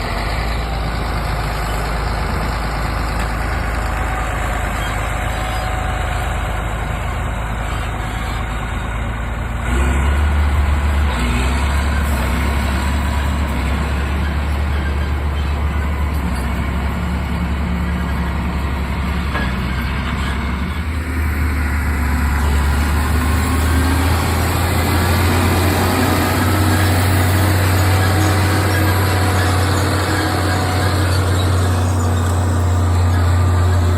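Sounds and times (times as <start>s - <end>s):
diesel harvesting machinery running: 0.0s - 33.9s.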